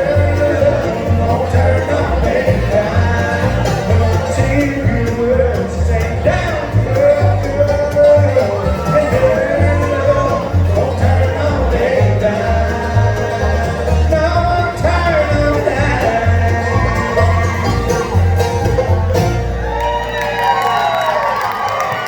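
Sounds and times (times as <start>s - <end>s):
bass notes: 0.0s - 21.0s
bluegrass band playing: 0.0s - 21.6s.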